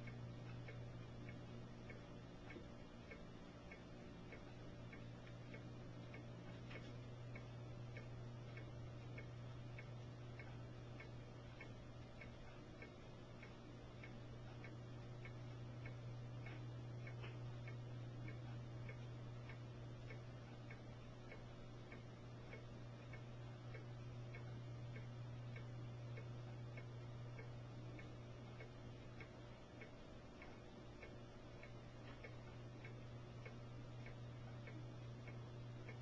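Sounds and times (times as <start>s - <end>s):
faint even ticking: 0.0s - 36.0s.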